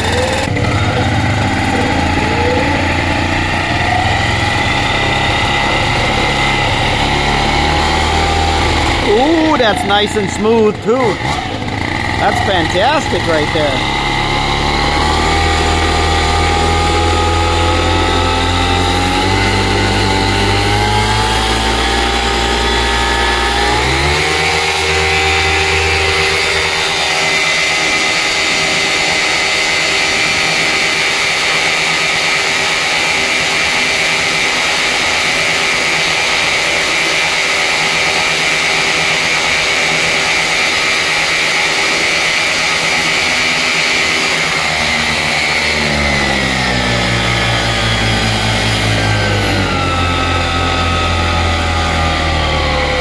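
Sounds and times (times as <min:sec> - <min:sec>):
paramotor engine at full throttle: 0:00.0 - 0:53.0.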